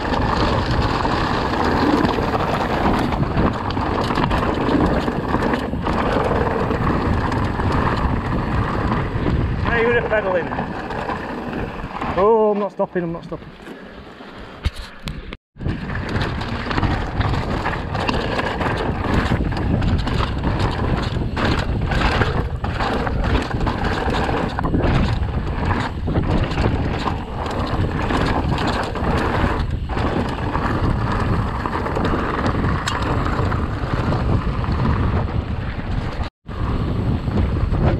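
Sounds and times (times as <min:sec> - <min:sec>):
wind buffeting microphone: 0:00.0 - 0:13.6, 0:14.5 - 0:37.9
bike rattling over rough ground: 0:00.0 - 0:37.9.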